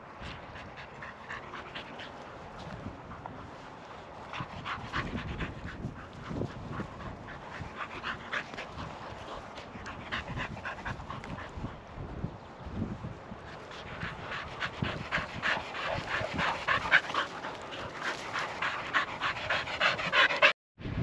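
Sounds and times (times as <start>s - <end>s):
dog panting rapidly: 0.2s - 11.8s, 13.5s - 20.6s.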